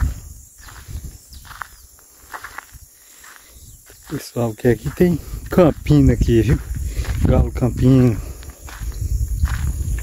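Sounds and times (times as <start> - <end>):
footsteps on a dirt path: 0.0 - 10.0
small birds chirping: 0.0 - 10.0.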